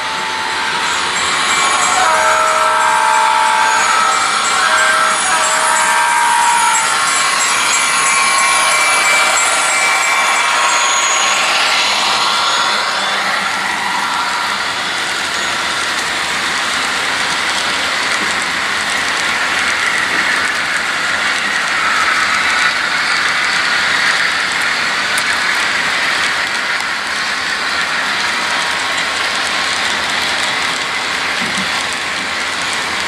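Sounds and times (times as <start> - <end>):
model train wheels on rail: 0.0 - 33.0.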